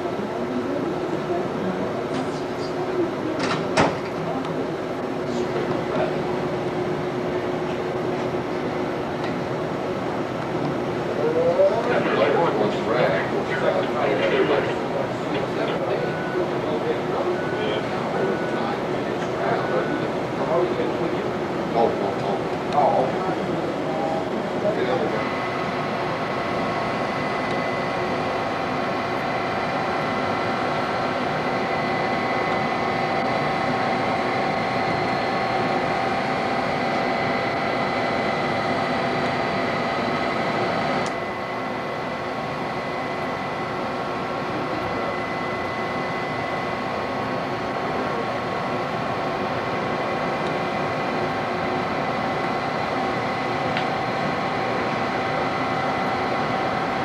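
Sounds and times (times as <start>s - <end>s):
computer equipment hum and whir: 0.0s - 57.0s.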